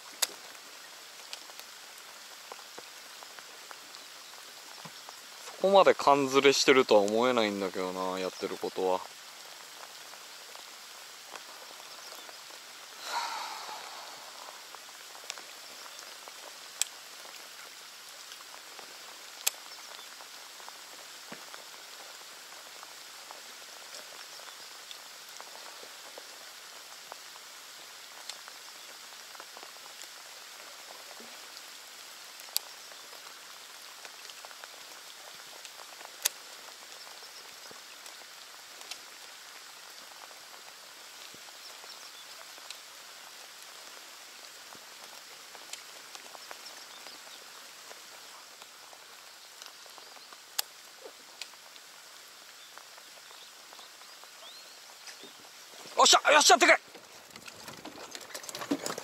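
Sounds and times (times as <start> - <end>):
rain falling on lake: 0.0 - 59.0.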